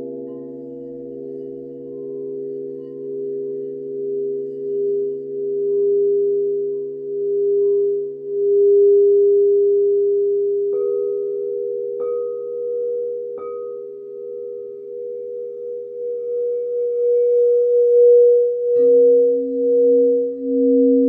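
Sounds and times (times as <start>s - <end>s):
singing bowls ringing: 0.0s - 21.0s.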